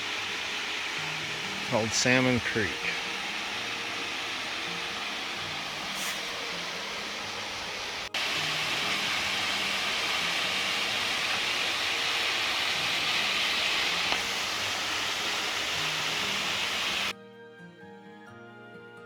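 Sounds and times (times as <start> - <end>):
waterfall rushing: 0.0 - 17.1.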